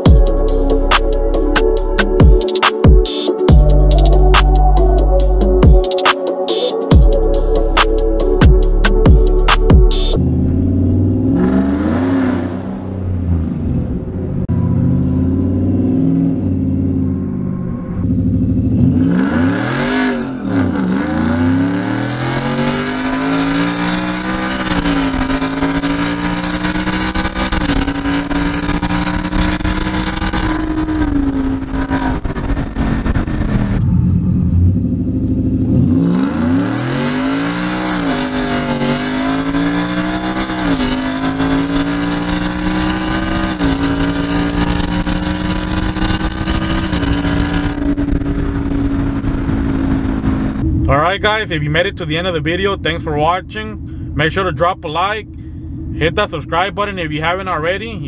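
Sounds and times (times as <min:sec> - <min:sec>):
engine accelerating through gear shifts: 0:06.9 - 0:54.5.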